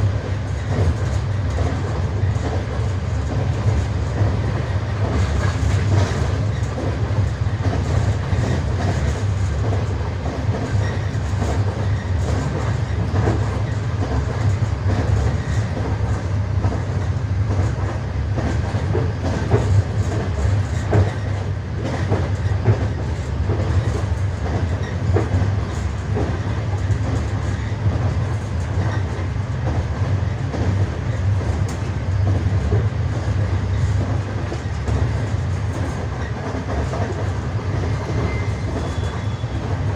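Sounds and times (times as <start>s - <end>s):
low rumble of moving carriage: 0.0s - 39.9s
train wheels clattering over rail joints: 0.0s - 39.9s.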